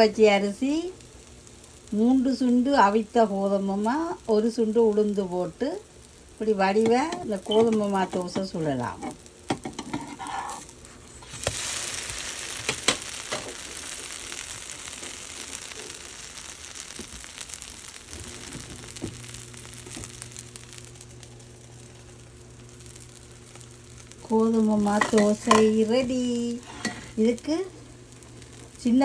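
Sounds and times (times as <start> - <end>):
batter sizzling on griddle: 0.0 - 29.0.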